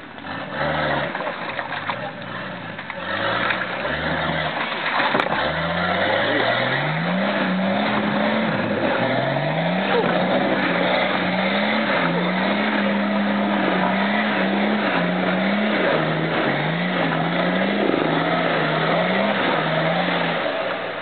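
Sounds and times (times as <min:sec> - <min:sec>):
mud and water thrown by tyres: 0:00.0 - 0:21.0
engine revving hard: 0:00.2 - 0:21.0.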